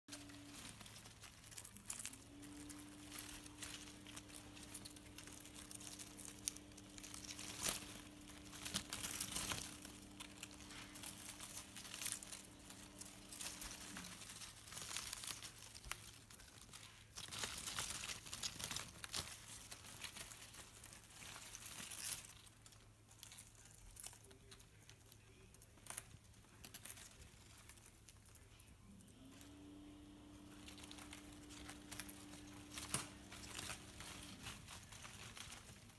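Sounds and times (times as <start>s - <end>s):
leaves rustling and crinkling: 0.0s - 35.9s
low electrical hum: 0.1s - 35.9s.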